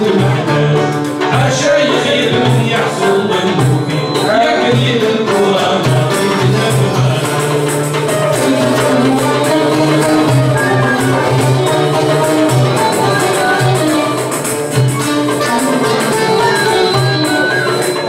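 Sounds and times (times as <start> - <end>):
banjos and mandole strummed: 0.0 - 18.0
hand percussion: 0.0 - 18.0.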